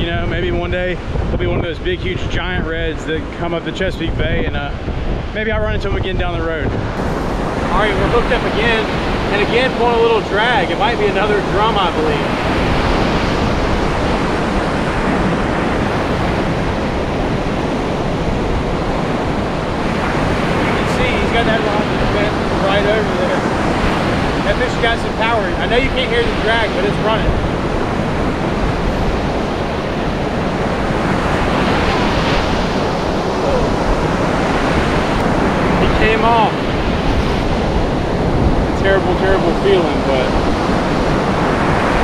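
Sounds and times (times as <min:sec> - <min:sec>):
surf crashing on beach: 0:00.0 - 0:42.0.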